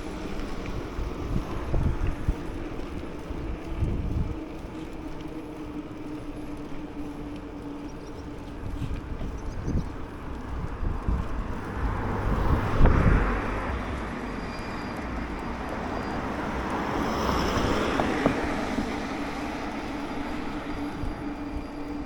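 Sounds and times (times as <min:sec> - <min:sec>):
low engine hum: 0:00.0 - 0:22.0
wind rumbling on microphone: 0:00.0 - 0:22.0.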